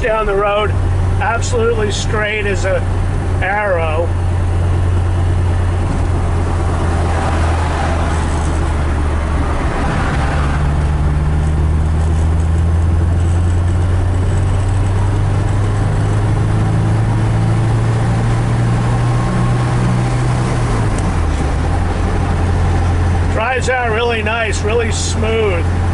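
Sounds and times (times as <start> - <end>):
car engine running: 0.0 - 25.9
tyre and road noise: 0.0 - 25.9.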